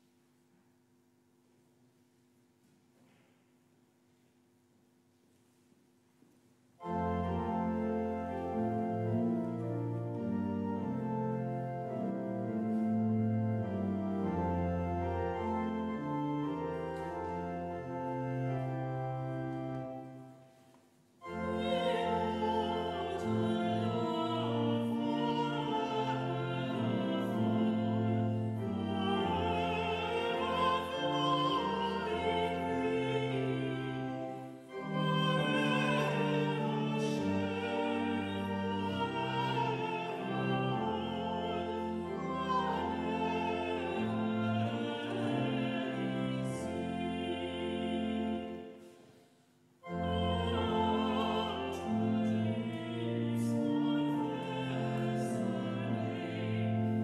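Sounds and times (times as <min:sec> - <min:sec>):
church choir singing: 0:06.8 - 0:20.6, 0:21.2 - 0:49.2, 0:49.8 - 0:57.0
organ: 0:06.8 - 0:49.2, 0:49.8 - 0:57.0.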